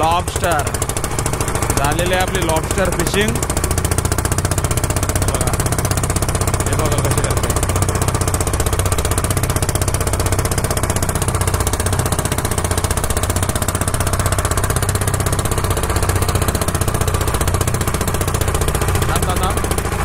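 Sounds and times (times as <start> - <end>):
boat engine knocking: 0.0 - 20.0.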